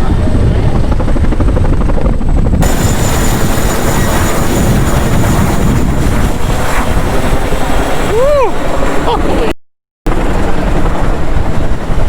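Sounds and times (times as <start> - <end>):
helicopter rotor chopping: 0.0 - 9.5, 10.1 - 12.0.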